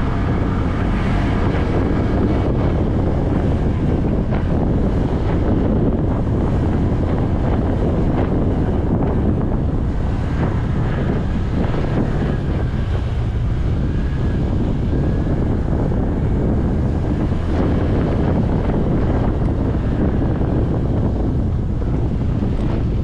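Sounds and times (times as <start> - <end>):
motorcycle running: 0.0 - 23.0
wind buffeting microphone: 0.0 - 23.0.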